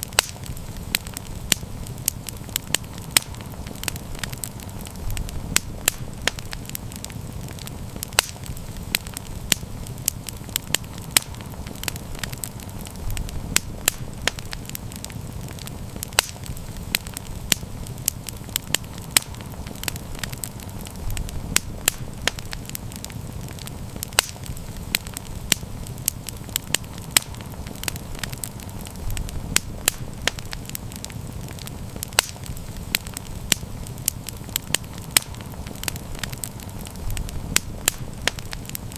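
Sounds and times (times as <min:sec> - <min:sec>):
campfire crackling: 0:00.0 - 0:38.9
low rumble of burning: 0:00.0 - 0:38.9.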